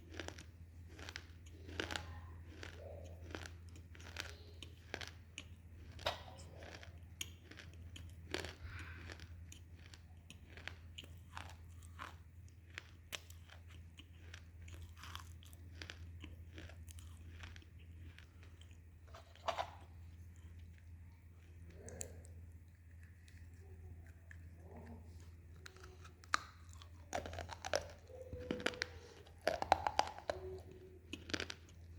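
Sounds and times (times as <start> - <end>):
crunching and chewing clay: 0.0 - 31.9
steady low hum: 0.0 - 31.9.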